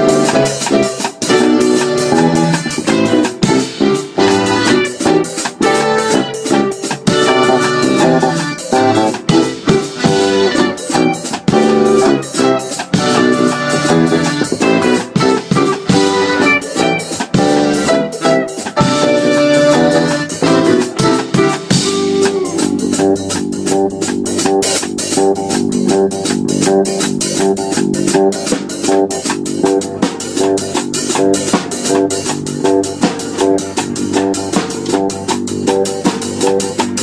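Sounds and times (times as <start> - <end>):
drum kit: 0.0 - 37.0
electric bass line: 0.0 - 37.0
live jazz band playing: 0.0 - 37.0.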